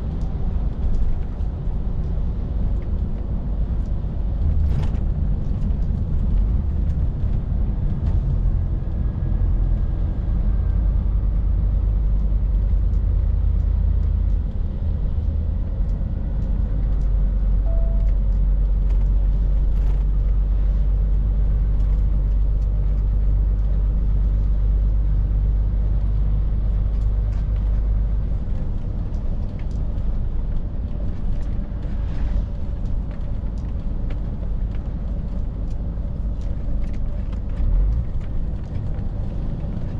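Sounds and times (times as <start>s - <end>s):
diesel lorry engine drone: 0.0s - 39.9s
road noise: 0.0s - 39.9s.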